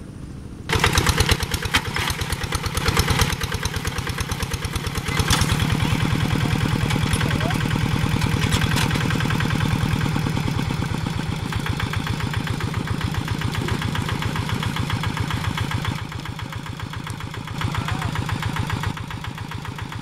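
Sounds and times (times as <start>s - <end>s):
diesel engine knocking: 0.7s - 20.0s.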